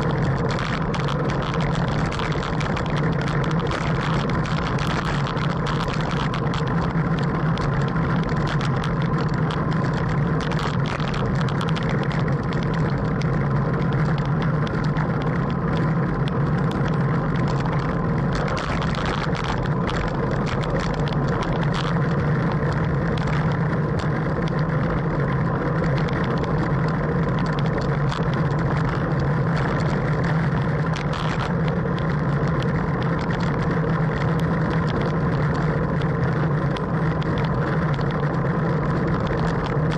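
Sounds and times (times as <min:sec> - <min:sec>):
small clicks and knocks: 0:00.0 - 0:39.9
tyre and road noise: 0:00.0 - 0:39.9
wind rushing over microphone: 0:00.0 - 0:39.9.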